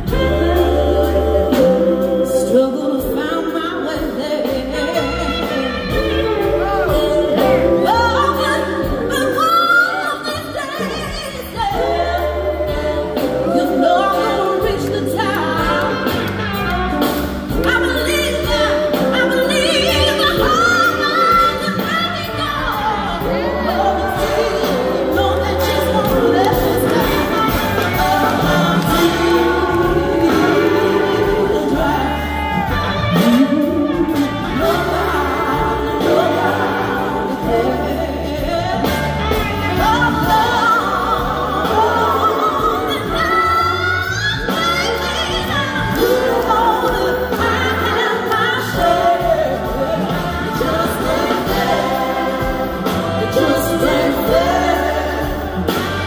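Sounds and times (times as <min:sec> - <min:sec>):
live band with bass and drums: 0:00.0 - 0:56.0
woman singing lead: 0:00.0 - 0:56.0.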